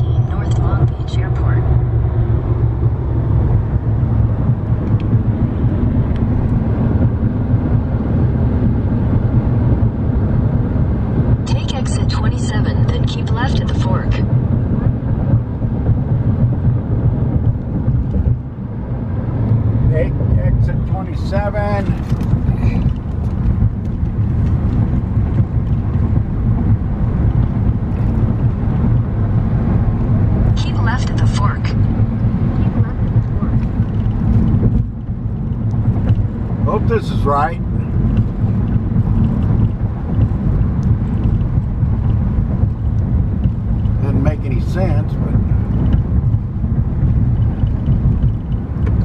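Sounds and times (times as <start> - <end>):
car road and engine rumble: 0.0 - 49.0.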